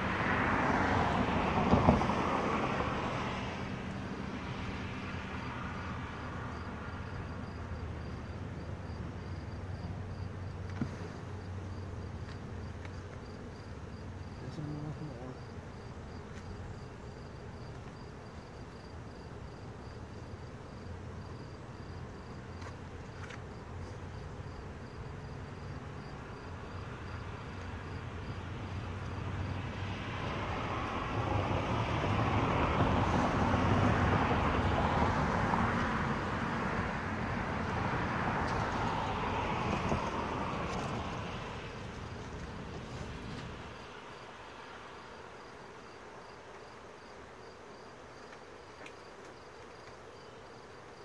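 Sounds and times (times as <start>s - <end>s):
bees buzzing: 0.0s - 51.0s
cricket chirping: 4.4s - 51.0s.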